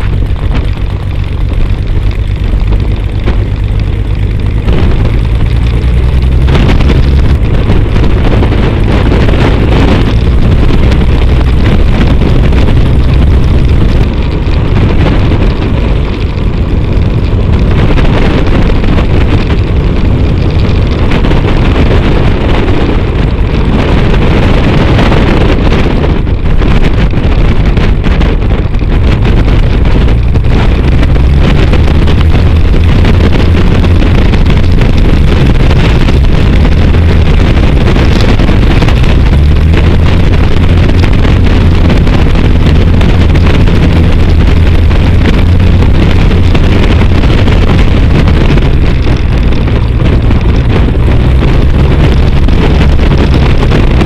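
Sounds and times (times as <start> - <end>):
propeller plane engine drone: 0.0 - 54.0
wind buffeting microphone: 0.0 - 54.0.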